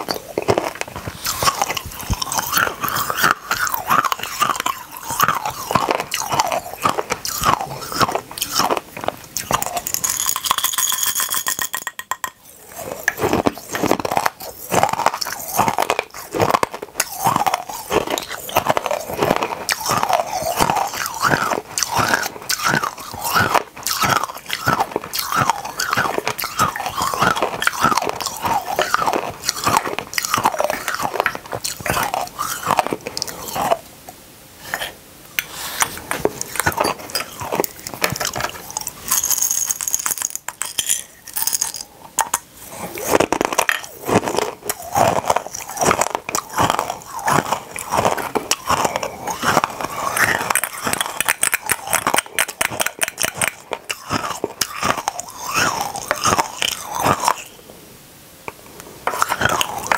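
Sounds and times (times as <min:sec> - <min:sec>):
crunching hard candies: 0:00.0 - 0:33.8, 0:34.7 - 0:57.6, 0:59.0 - 0:59.9.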